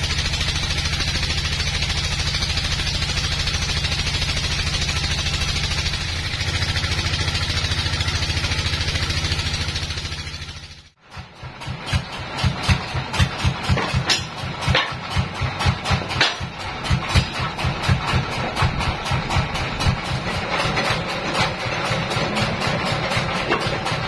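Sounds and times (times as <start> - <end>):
sawmill engine droning: 0.0 - 24.0.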